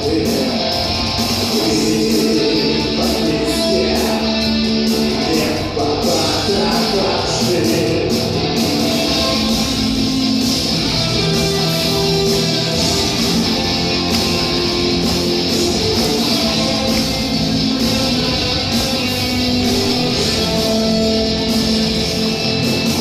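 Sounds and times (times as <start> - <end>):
electric guitar: 0.0 - 23.0
rock band playing live: 0.0 - 23.0.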